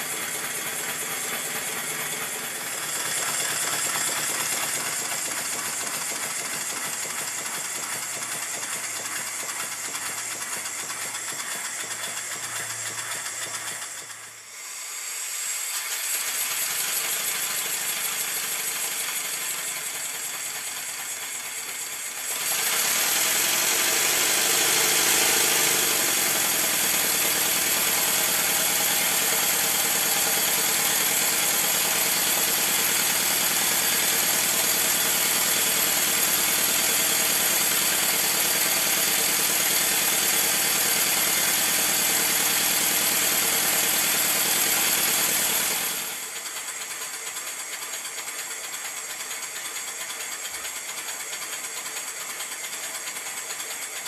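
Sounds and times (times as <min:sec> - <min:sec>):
model engine running on air: 0:00.0 - 0:54.0.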